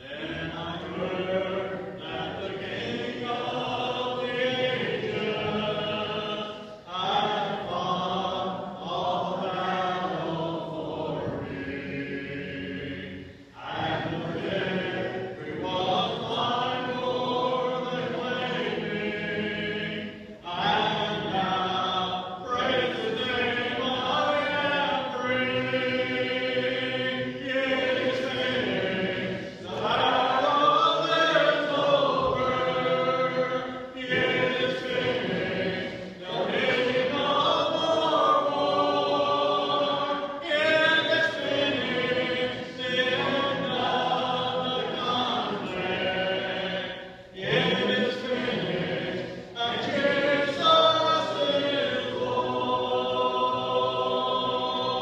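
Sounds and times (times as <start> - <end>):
congregation singing a hymn: 0.0 - 55.0.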